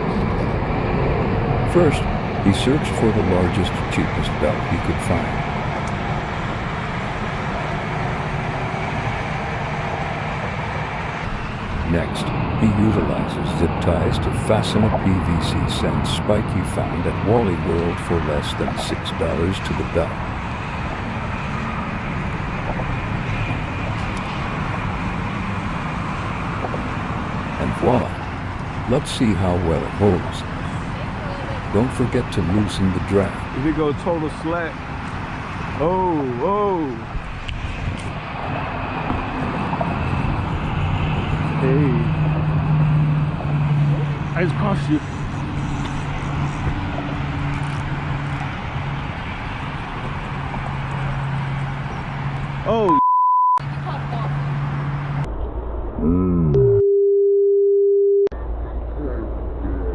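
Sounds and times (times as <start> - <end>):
road traffic rumble: 0.0 - 53.0, 53.6 - 56.9.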